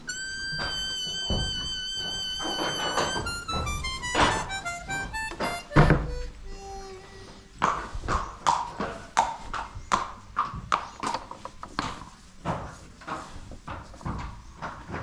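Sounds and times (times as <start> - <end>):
horse hooves clip-clopping: 0.0 - 6.0, 7.6 - 15.0.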